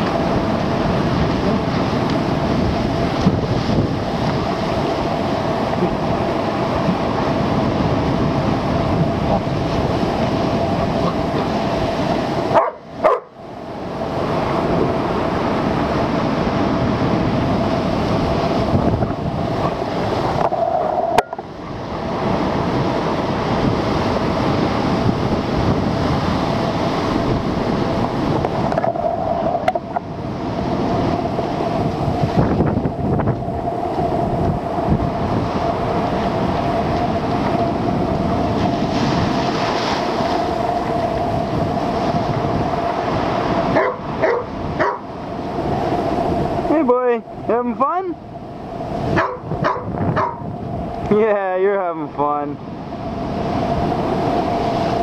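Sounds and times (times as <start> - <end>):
waves crashing against rocks: 0.0 - 55.0
wind buffeting microphone: 0.0 - 55.0.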